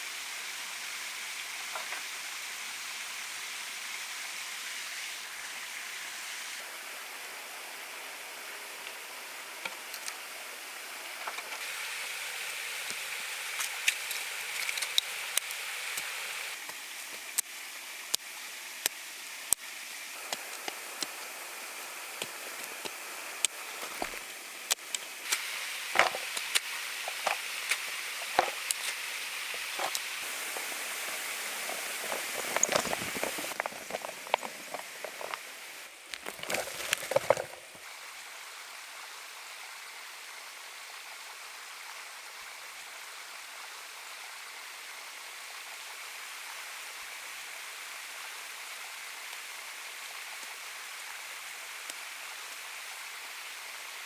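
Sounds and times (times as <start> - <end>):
outdoor ambience hiss: 0.0 - 54.0.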